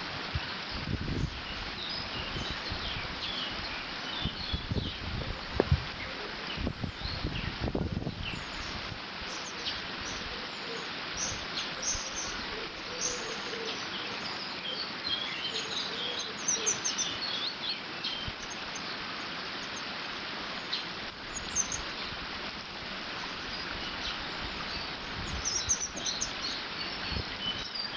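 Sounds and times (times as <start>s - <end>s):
small birds chirping: 0.3s - 27.9s.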